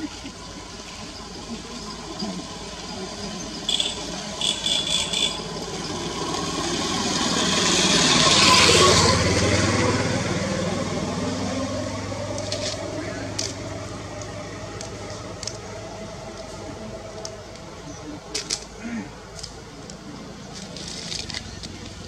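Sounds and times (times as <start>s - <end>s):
motor vehicle passing: 0.4s - 18.8s.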